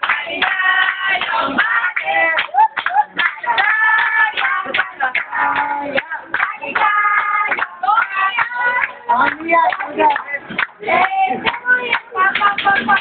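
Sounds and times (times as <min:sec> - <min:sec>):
group singing a birthday song: 0:00.0 - 0:13.0
hand clapping: 0:00.0 - 0:13.0.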